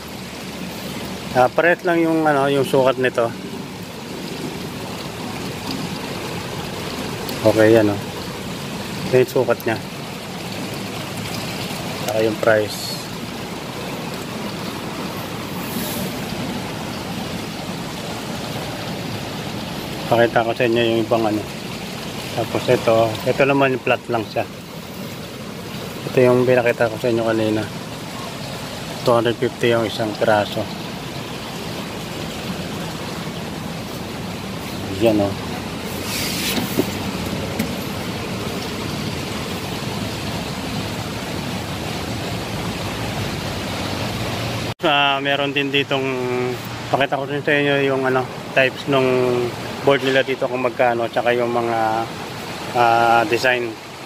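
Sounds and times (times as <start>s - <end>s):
constant hiss: 0.0s - 54.0s.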